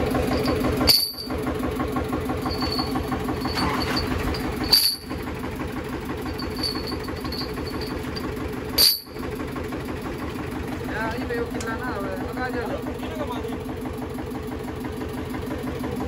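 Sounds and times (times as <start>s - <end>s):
diesel tractor engine idling: 0.0s - 16.0s.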